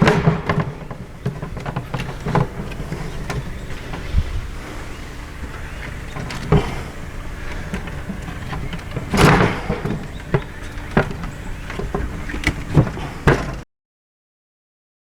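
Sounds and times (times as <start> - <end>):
steady low rumble: 0.0 - 13.3
wooden parts knocking and clattering: 0.0 - 13.6.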